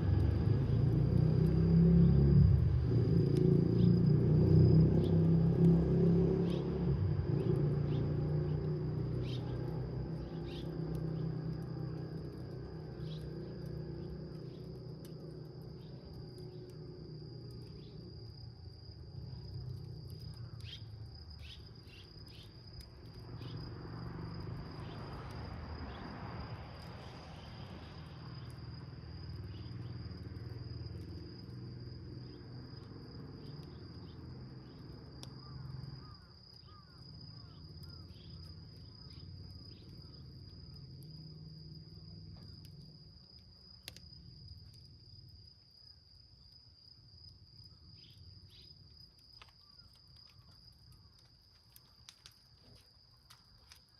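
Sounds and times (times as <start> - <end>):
wood fire crackling and popping: 0.0 - 36.4, 37.2 - 45.2, 48.3 - 53.9
insects chirring: 0.0 - 53.9.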